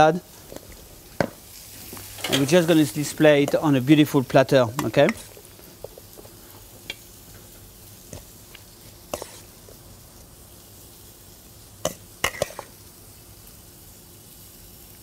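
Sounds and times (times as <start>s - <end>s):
faint sizzle of meat grilling: 0.0s - 15.0s.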